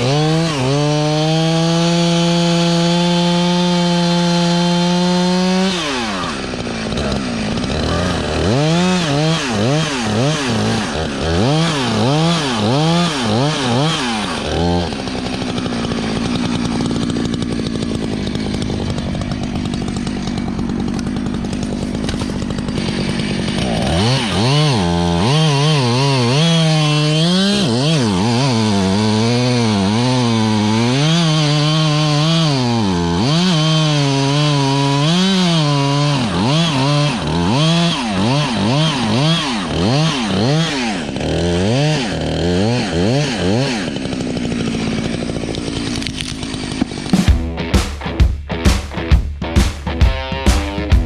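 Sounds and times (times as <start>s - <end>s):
chainsaw idling and revving: 0.0s - 51.0s.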